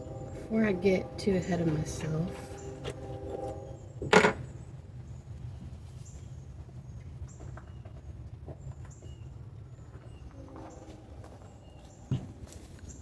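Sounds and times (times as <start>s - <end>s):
low background rumble: 0.0s - 10.6s.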